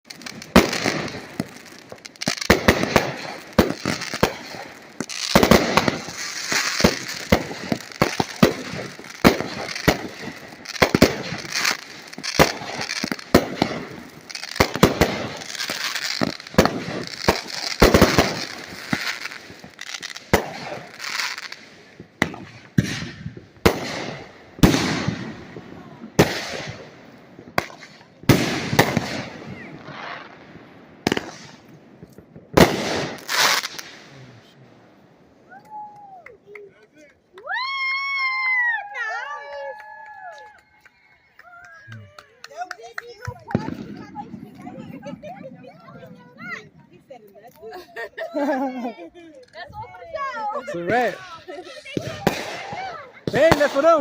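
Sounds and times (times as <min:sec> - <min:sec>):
fireworks bangs: 0:00.0 - 0:35.8, 0:41.6 - 0:47.4, 0:48.1 - 0:54.0
fireworks crackling: 0:00.0 - 0:54.0.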